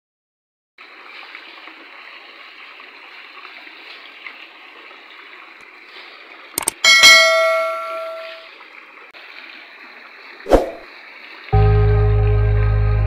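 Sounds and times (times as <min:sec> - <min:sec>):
water rushing in canal: 0:00.8 - 0:11.6.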